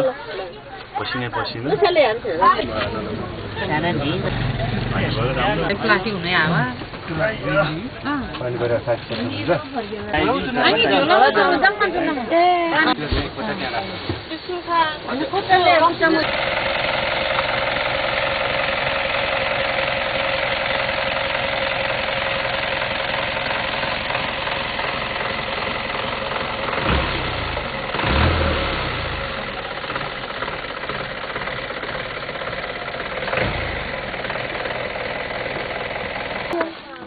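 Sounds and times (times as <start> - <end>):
bus engine idling: 0.0 - 37.0.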